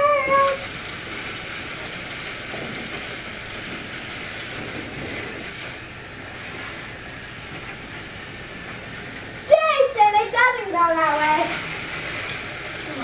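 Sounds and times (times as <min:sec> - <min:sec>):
toy train motors running: 0:00.0 - 0:13.0.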